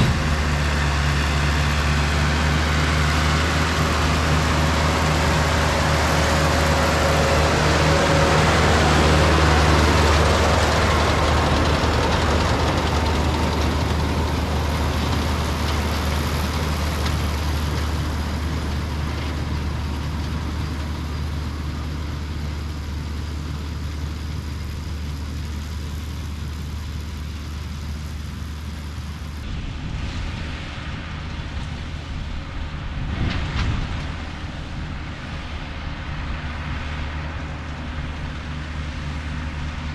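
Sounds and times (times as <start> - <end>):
hay baler machinery noise: 0.0 - 39.9
tractor engine droning: 0.0 - 39.9.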